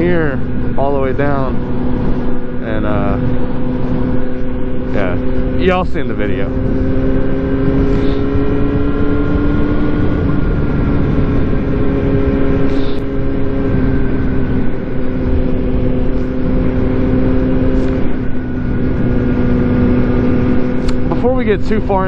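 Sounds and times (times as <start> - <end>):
motorcycle engine cruising: 0.0 - 22.0
wind rushing: 0.0 - 22.0.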